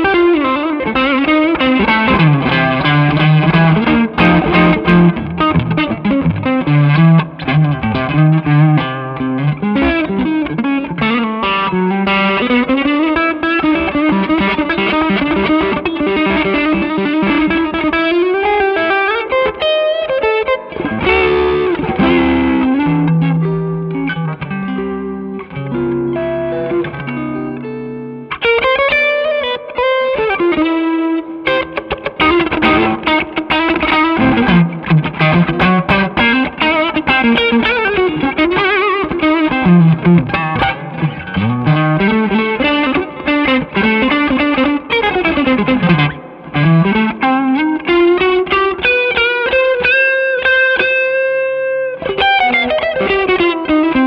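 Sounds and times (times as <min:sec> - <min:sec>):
electric guitar through amplifier: 0:00.0 - 0:54.0.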